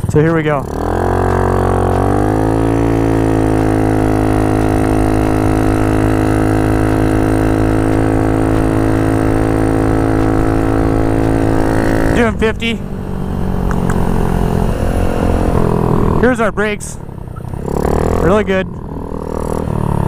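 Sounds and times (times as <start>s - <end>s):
scooter engine accelerating: 0.0s - 20.0s.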